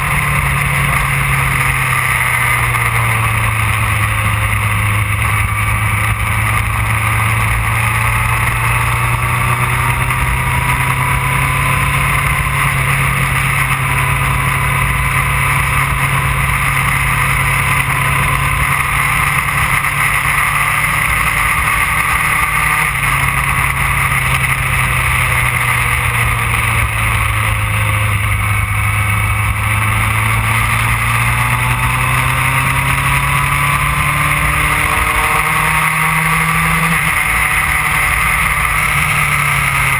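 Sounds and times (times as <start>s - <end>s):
motorcycle engine cruising: 0.0s - 39.9s
road noise rushing: 0.0s - 39.9s.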